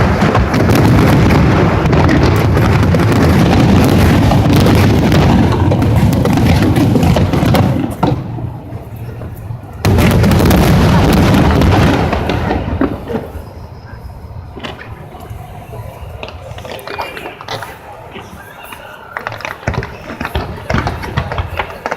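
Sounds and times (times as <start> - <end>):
scattered firework bangs: 0.0 - 14.0, 16.2 - 21.9
fireworks booming: 0.0 - 21.9.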